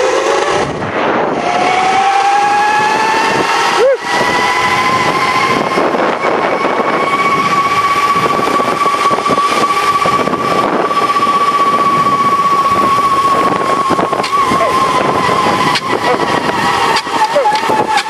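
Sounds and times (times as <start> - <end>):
continuous rushing noise: 0.0 - 18.0
pulley high whine: 0.0 - 18.0.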